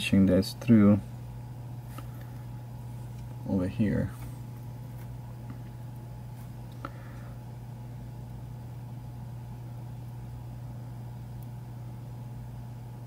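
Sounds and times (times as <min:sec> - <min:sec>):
equipment humming: 0:00.0 - 0:13.0.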